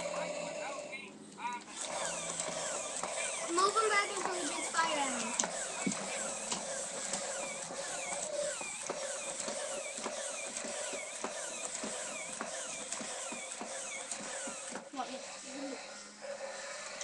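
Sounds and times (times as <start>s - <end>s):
toy gears squeaking and clicking: 1.7s - 17.0s
toy motor whir: 1.7s - 17.0s.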